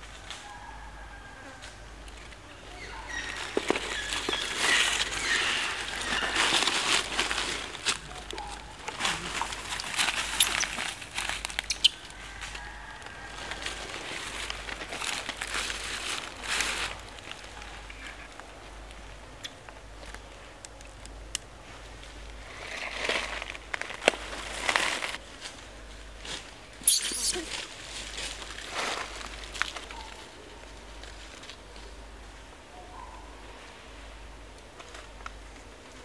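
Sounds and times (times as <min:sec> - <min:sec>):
rustling in dry leaves: 0:01.2 - 0:20.6, 0:21.6 - 0:32.5.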